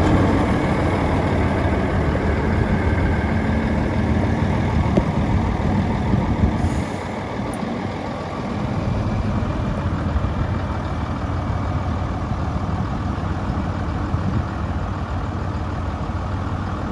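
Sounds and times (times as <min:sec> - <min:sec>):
truck diesel engine idling: 0:00.0 - 0:16.9.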